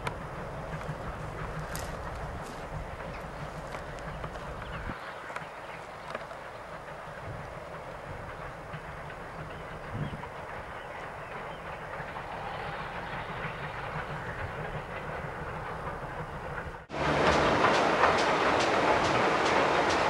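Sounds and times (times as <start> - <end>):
steam locomotive running: 0.0 - 20.0.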